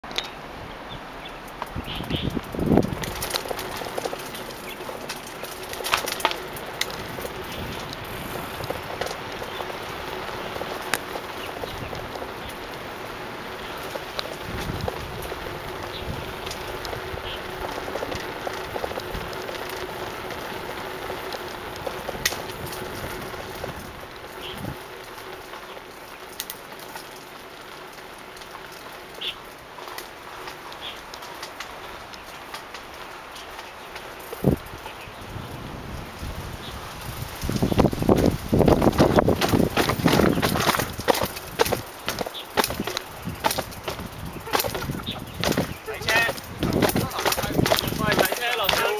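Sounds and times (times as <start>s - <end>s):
bike clicking and rattling: 0.0s - 48.9s
rushing wind: 0.0s - 48.9s
bicycle tyres hissing on pavement: 0.4s - 48.9s.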